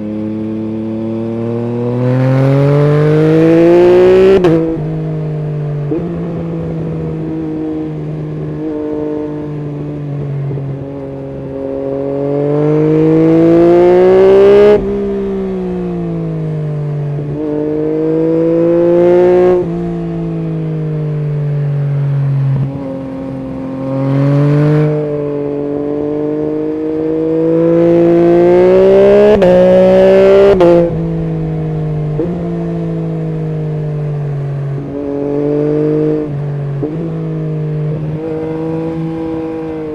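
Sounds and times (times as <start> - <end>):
motorcycle exhaust accelerating: 0.0 - 39.9.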